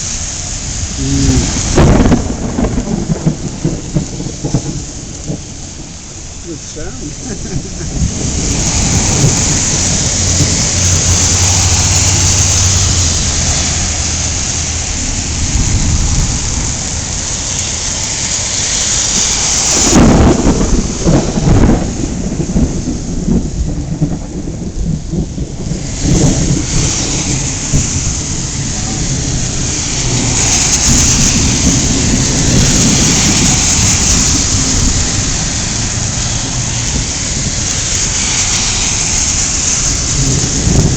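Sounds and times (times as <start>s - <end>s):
heavy rain hissing: 0.0s - 40.9s
thunder rumbling: 0.0s - 40.9s.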